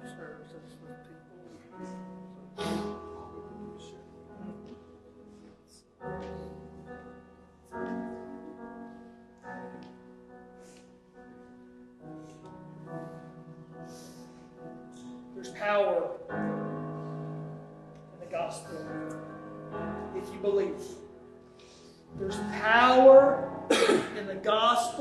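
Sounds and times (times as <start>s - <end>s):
slow soft piano chords: 0.0s - 25.0s.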